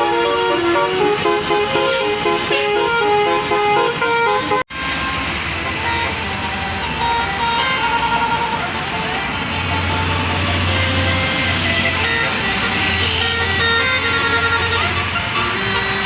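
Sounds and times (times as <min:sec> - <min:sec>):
bus engine running: 0:00.0 - 0:16.0
bus musical horn melody: 0:00.0 - 0:16.0.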